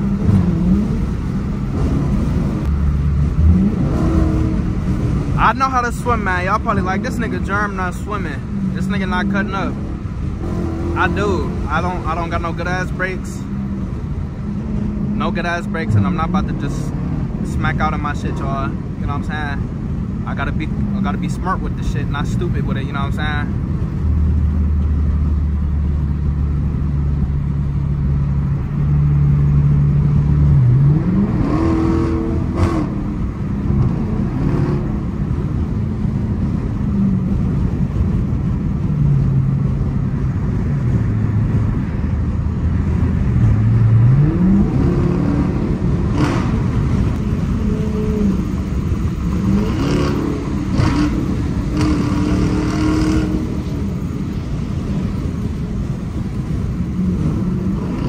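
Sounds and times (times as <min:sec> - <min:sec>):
car engine humming: 0:00.0 - 0:58.0
road noise: 0:00.0 - 0:58.0.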